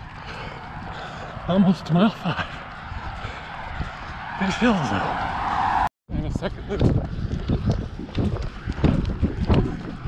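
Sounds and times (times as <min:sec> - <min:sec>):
running footsteps on asphalt: 0:00.0 - 0:05.6, 0:06.5 - 0:10.0.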